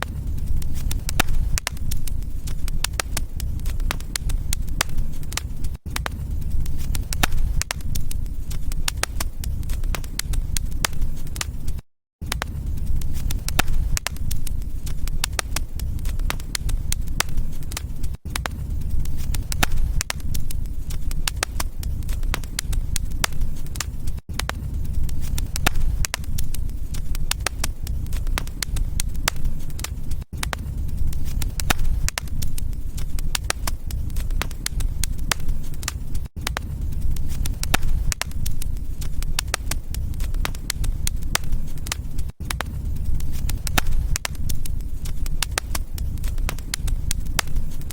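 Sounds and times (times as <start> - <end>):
low rumble of flames: 0.0 - 47.9
sharp pops and snaps: 0.0 - 47.9
wood fire crackling: 0.0 - 47.9.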